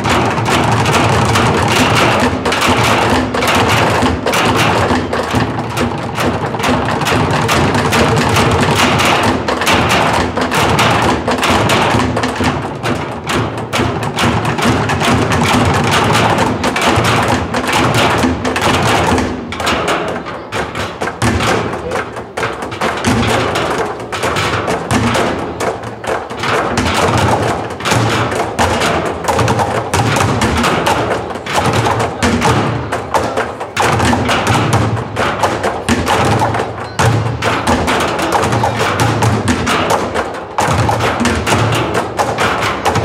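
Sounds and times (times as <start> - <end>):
drumming on metal drums and barrels: 0.0 - 43.0.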